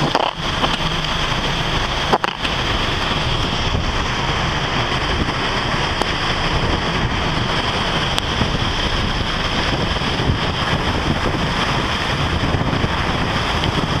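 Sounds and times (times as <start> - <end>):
rough sea: 0.0 - 14.0
wind blowing on microphone: 0.0 - 14.0.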